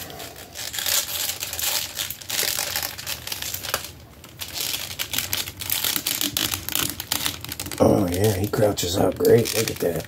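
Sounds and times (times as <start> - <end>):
plastic parts knocking and rubbing: 0.0 - 10.0.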